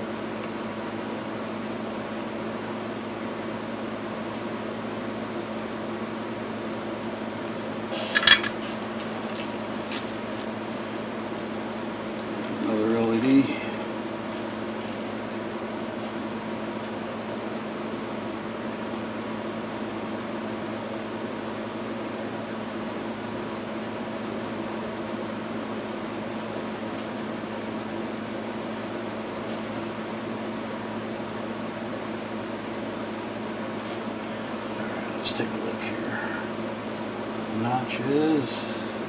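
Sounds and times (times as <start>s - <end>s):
fan hum: 0.0s - 39.0s.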